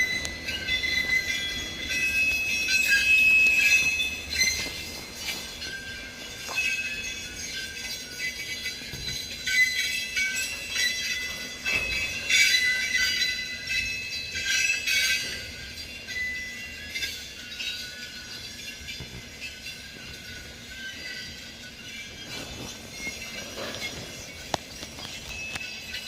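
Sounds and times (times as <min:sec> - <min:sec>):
locomotive wheels squealing: 0:00.0 - 0:26.0.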